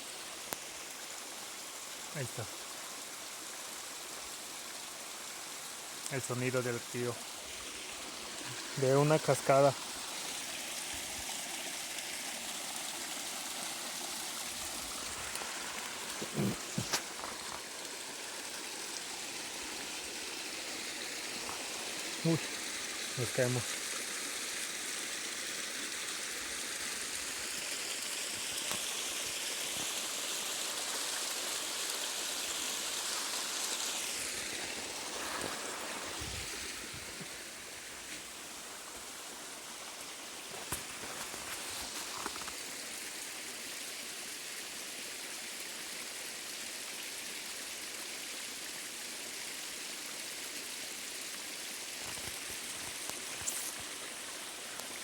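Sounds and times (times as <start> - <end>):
stream rushing over cascade: 0.0 - 55.0.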